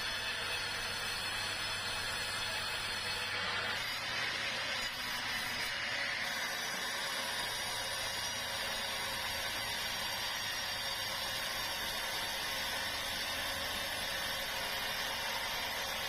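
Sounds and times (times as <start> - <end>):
sawmill saw running: 0.0 - 16.0.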